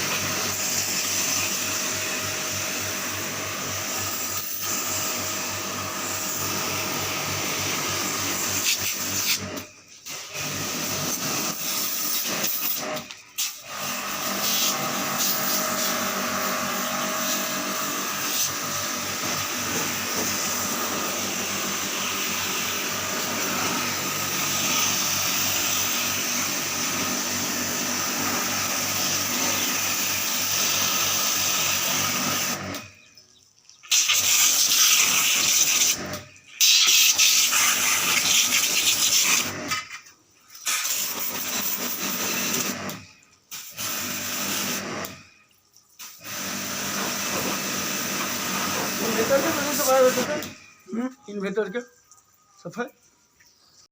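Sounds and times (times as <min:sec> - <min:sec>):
electric motor hissing: 0:00.0 - 0:33.0, 0:33.9 - 0:39.9, 0:40.7 - 0:45.2, 0:46.2 - 0:50.7.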